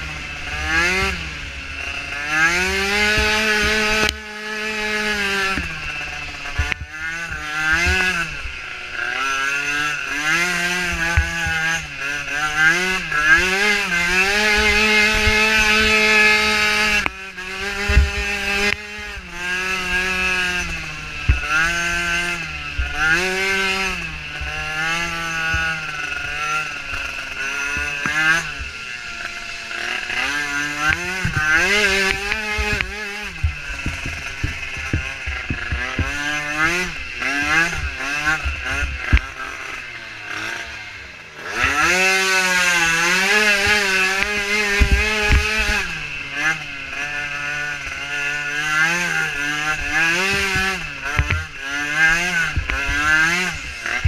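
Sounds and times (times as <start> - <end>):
small atv engine revving: 0.0 - 54.0.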